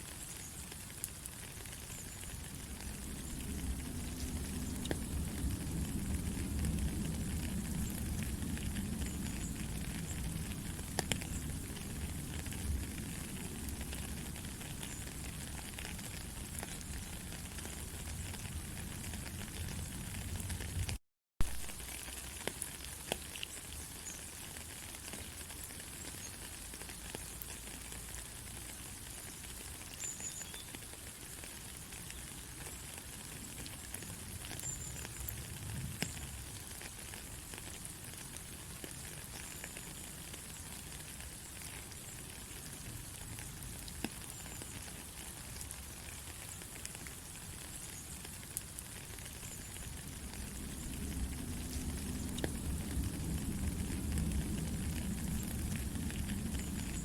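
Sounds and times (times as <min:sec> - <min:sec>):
raindrops ticking on a surface: 0:00.0 - 0:57.0
steady rain: 0:00.0 - 0:57.0.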